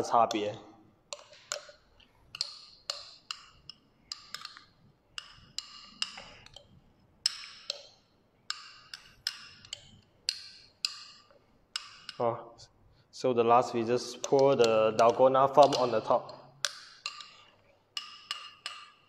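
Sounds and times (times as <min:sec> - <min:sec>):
metal spoon tapping a container: 0:01.1 - 0:12.2, 0:14.0 - 0:19.0.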